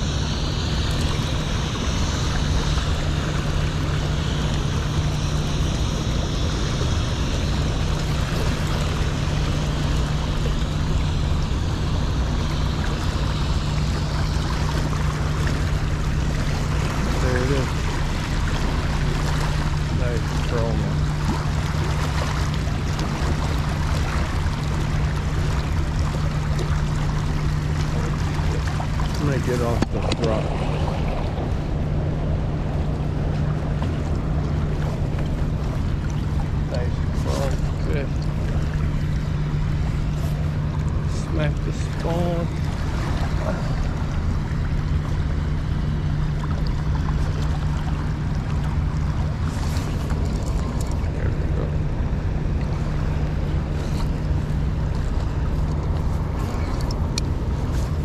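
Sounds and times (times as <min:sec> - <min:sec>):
constant low hum: 0:00.0 - 0:58.0
low steady rumble: 0:00.0 - 0:58.0
river water rushing: 0:00.9 - 0:58.0.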